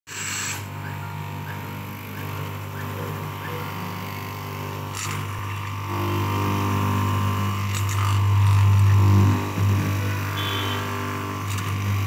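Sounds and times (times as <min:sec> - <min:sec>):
cloth cutting machine humming: 0:00.1 - 0:12.0.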